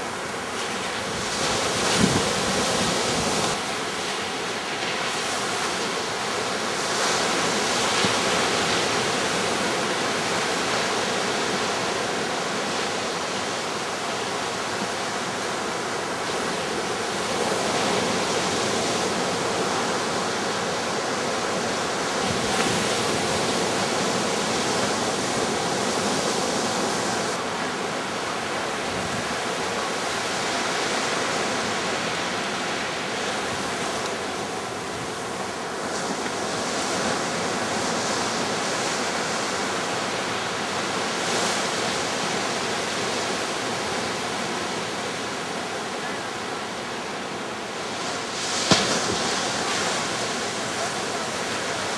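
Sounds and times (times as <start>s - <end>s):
ocean surf breaking: 0.0s - 51.9s.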